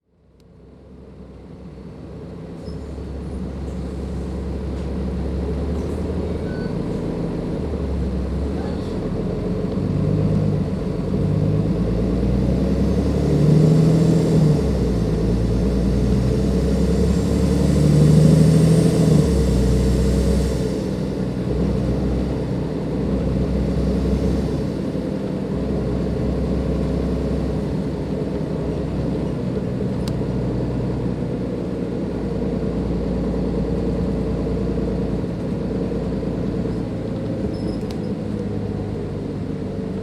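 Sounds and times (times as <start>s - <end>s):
diesel bus engine pulling away: 0.1s - 40.0s.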